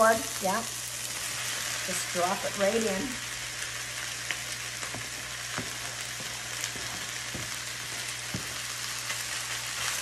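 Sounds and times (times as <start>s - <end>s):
chicken and peppers sizzling: 0.0s - 10.0s.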